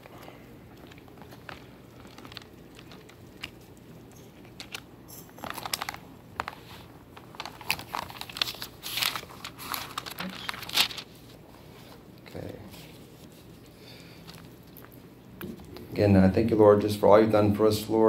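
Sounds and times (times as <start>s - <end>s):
rustling and crinkling: 0.0s - 15.9s.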